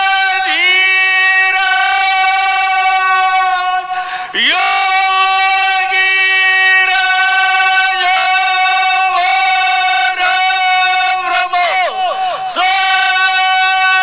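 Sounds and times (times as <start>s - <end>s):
devotional singing in held notes: 0.0s - 14.0s.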